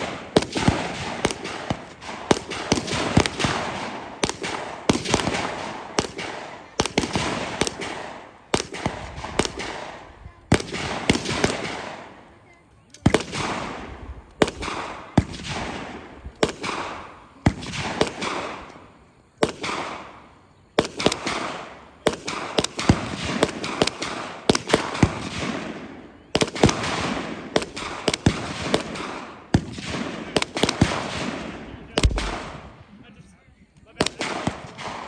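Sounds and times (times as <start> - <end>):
echoing gunshots: 0.0 - 12.2, 13.0 - 32.9, 34.0 - 35.0.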